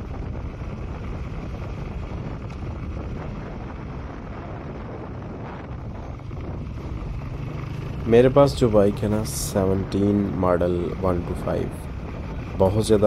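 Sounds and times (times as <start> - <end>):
motorcycle engine rumble: 0.0 - 13.0
road noise: 0.0 - 13.0
wind buffeting microphone: 0.0 - 13.0.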